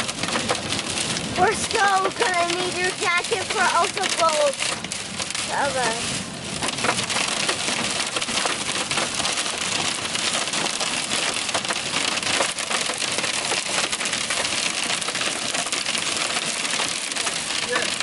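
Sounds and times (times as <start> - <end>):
hail clattering on car roof: 0.0 - 18.0.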